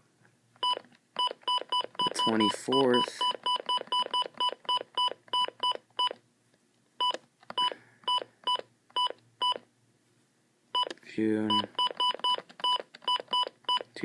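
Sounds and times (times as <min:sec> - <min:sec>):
keypad beeps: 0:00.6 - 0:06.2, 0:07.0 - 0:09.6, 0:10.8 - 0:13.9.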